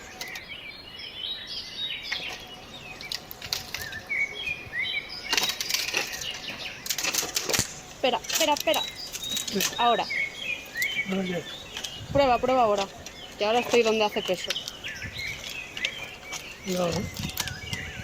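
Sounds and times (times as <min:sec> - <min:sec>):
small birds chirping: 0:00.0 - 0:18.0
rustling and clattering: 0:02.1 - 0:04.1, 0:05.2 - 0:18.0.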